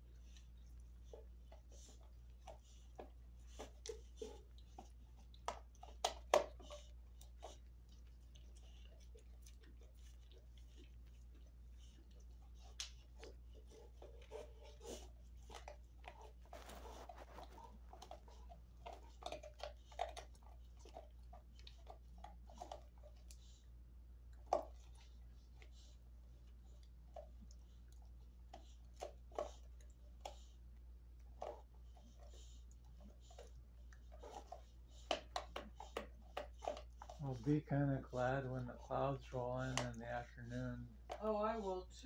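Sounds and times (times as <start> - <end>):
dog gnawing a chew: 0.0 - 41.6.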